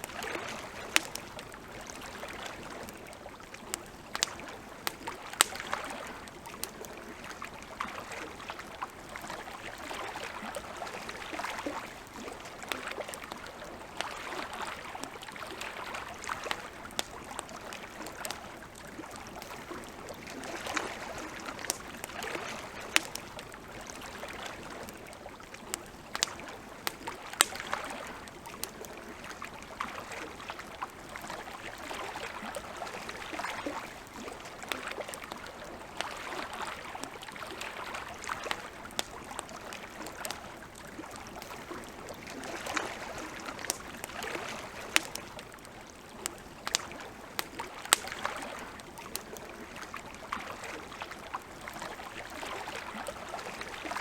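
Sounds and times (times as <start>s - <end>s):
campfire crackling: 0.0s - 54.0s.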